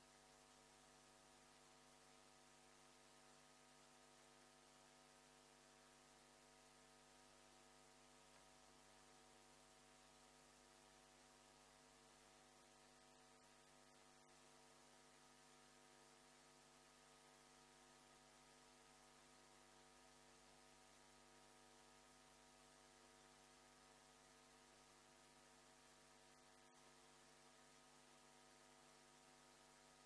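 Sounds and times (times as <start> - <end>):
faint electrical hum: 0.0 - 30.0.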